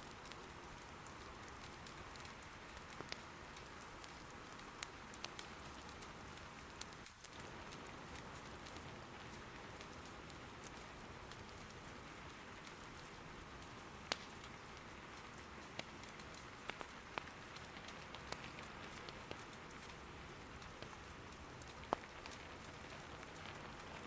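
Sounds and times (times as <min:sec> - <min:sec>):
soft rain: 0:00.0 - 0:24.0.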